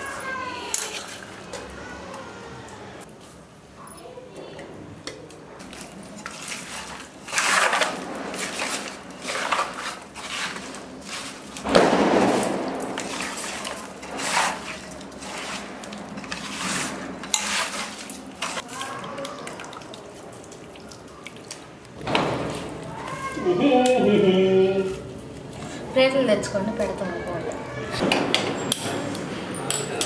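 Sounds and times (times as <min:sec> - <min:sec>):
hand mixing food in metal pot: 0:00.0 - 0:01.8, 0:05.0 - 0:28.0.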